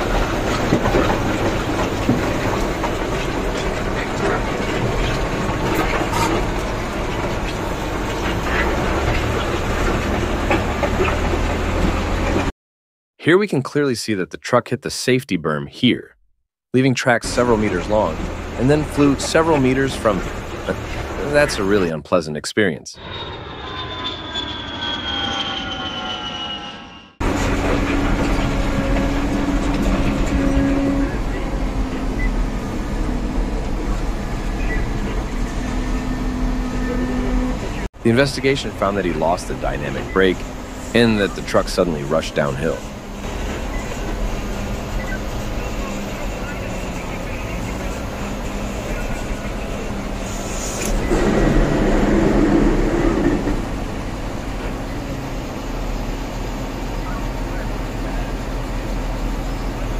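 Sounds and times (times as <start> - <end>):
airplane whining tones: 0.0 - 12.5, 17.2 - 21.9, 23.0 - 59.9
engine and tyres on gravel: 0.0 - 12.5, 17.3 - 21.9, 27.2 - 59.9
vehicle running inside cab: 0.0 - 12.5, 17.2 - 22.0, 23.0 - 59.9.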